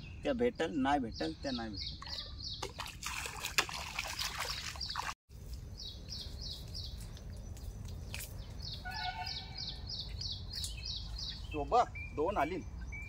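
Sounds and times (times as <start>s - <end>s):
bird chirping: 0.0s - 2.8s, 4.4s - 13.0s.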